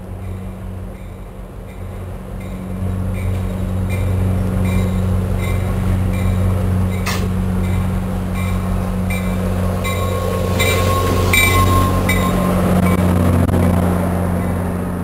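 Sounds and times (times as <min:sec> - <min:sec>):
diesel locomotive engine hum: 0:00.0 - 0:15.0
grade-crossing bell ringing: 0:00.1 - 0:14.6
train wheel squeal: 0:00.2 - 0:13.5.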